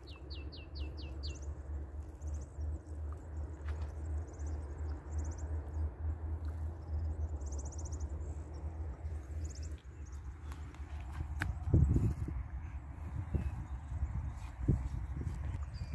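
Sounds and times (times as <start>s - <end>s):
low wind rumble: 0.0s - 15.9s.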